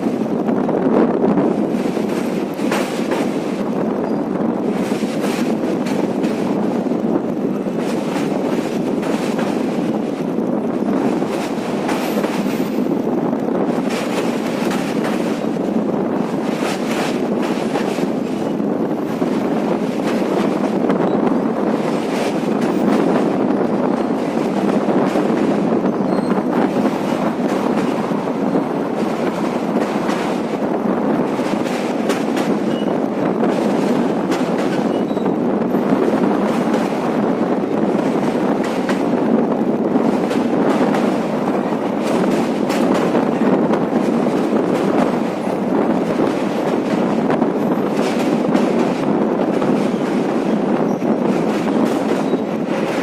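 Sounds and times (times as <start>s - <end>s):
train rolling rumble: 0.0s - 53.0s
wheels clacking over rail joints: 1.4s - 53.0s.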